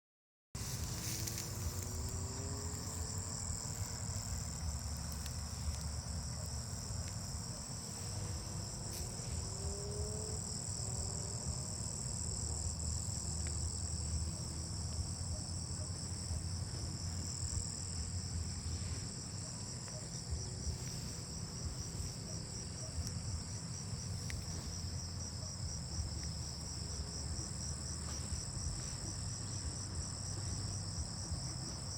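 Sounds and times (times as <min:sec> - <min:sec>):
crickets trilling: 0:00.6 - 0:31.9.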